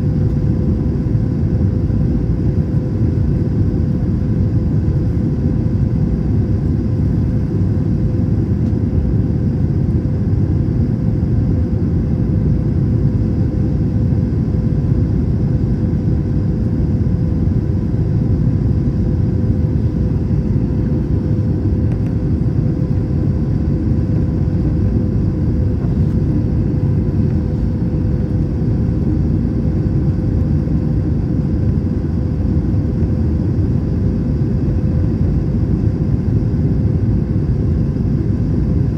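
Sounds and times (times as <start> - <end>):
airflow and jet engine rumble: 0.0 - 38.9
steady low hum: 0.0 - 38.9.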